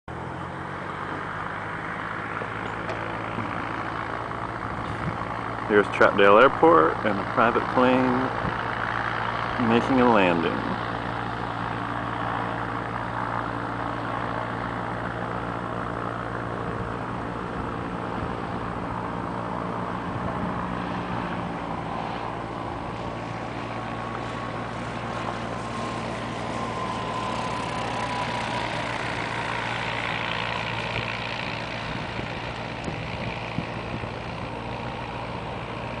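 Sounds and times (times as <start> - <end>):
propeller plane engine droning: 0.1 - 36.0
rush of plane passing over: 0.1 - 36.0.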